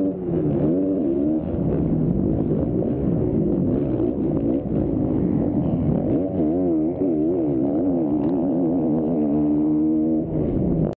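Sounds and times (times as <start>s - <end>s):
motocross bike engine revving: 0.0s - 10.3s.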